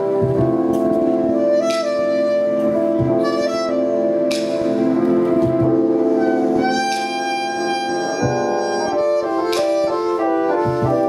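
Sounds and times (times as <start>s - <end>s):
sustained instrumental melody: 0.0s - 11.0s.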